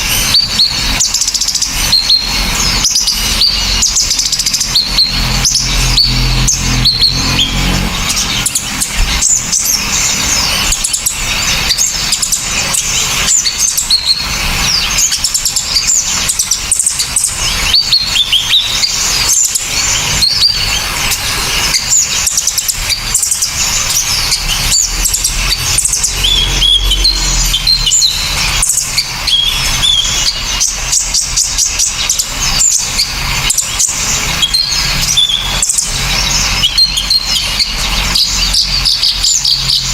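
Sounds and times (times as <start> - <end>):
small songbirds singing: 0.0 - 39.9.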